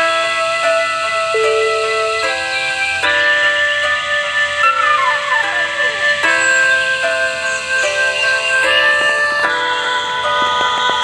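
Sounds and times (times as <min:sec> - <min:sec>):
slow instrumental melody: 0:00.0 - 0:11.0.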